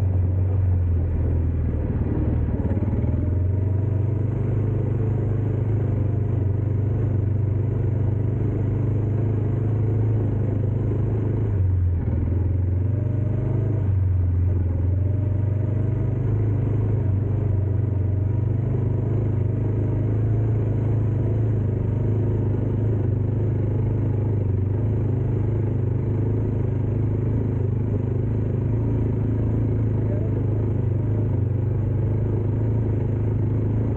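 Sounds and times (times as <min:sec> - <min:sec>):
dirt bike engine running: 0:00.0 - 0:33.9.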